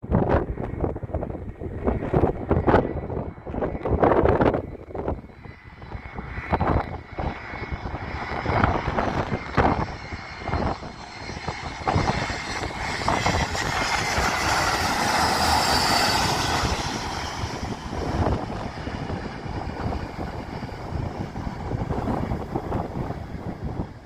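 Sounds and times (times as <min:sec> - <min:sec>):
wind buffeting microphone: 0:00.0 - 0:24.0
jet engines whining: 0:00.3 - 0:24.0.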